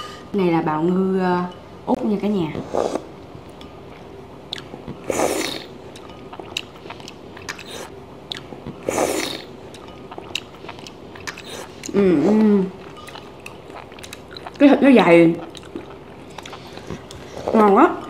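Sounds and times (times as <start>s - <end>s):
person chewing: 2.6s - 17.8s.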